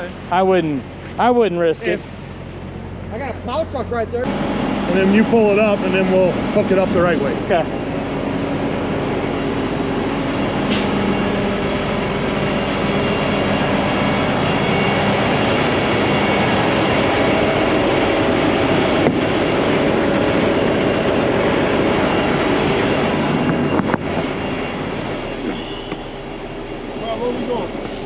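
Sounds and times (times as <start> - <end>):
diesel truck engine running: 0.0 - 28.0
road noise: 0.0 - 28.0.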